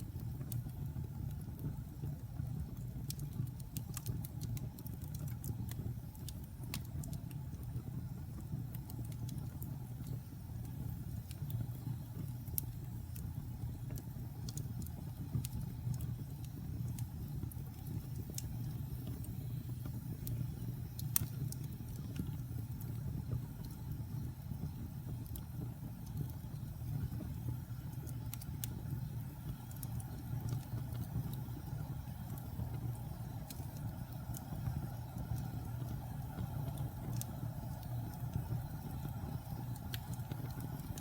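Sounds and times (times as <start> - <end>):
fire crackling and popping: 0.0 - 41.0
wood fire rumbling: 0.0 - 41.0.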